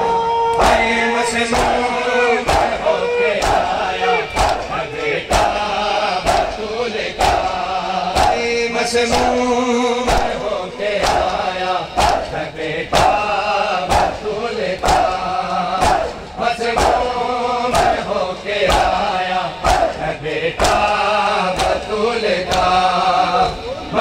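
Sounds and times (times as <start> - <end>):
crowd beating chests: 0.4 - 24.0
men chanting: 0.5 - 24.0.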